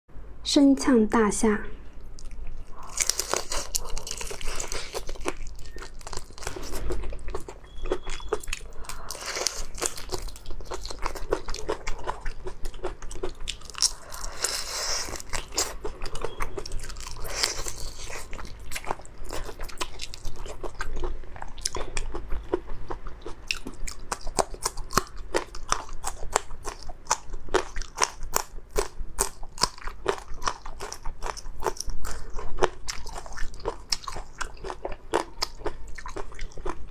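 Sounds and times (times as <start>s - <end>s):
crunching and chewing prawn shell: 2.0s - 36.9s.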